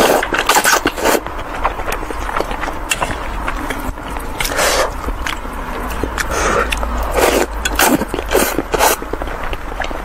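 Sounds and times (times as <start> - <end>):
noodles slurped and chewed: 0.0 - 10.0.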